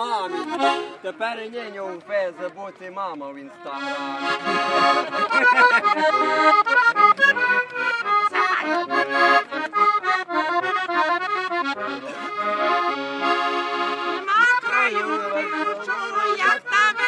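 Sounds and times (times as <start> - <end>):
accordion playing folk tune: 0.0 - 17.0.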